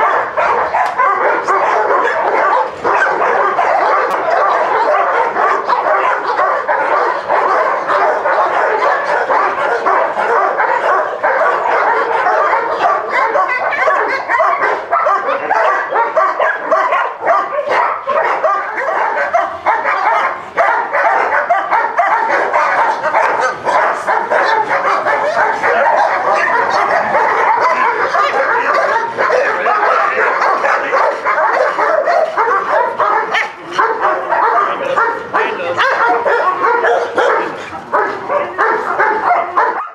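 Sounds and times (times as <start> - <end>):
many dogs barking and yelping: 0.0 - 39.9.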